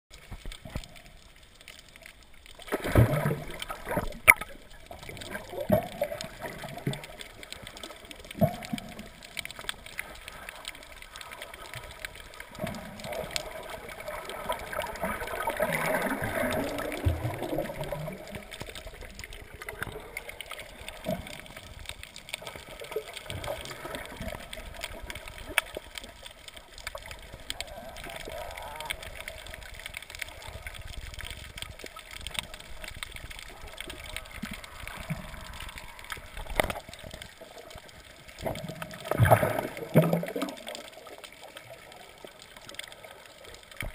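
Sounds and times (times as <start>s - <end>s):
underwater gurgling and bubbling: 0.2s - 43.9s.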